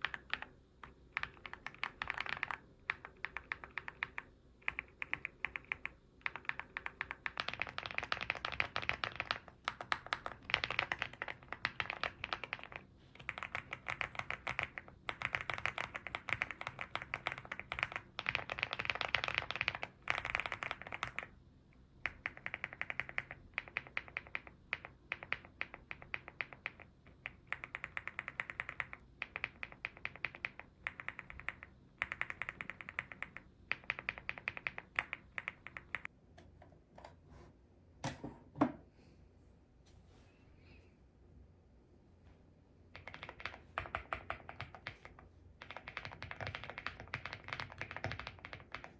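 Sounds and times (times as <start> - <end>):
mechanical keyboard typing: 0.0 - 21.4, 22.0 - 36.1, 42.9 - 48.9.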